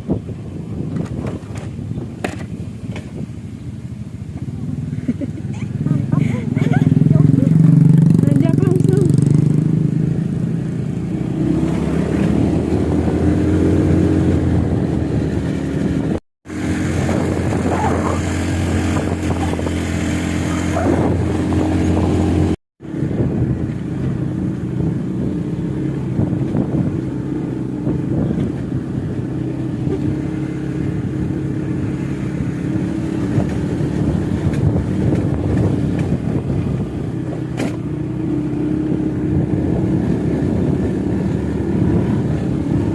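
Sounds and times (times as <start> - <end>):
vehicle engine climbing uphill: 0.0 - 42.9.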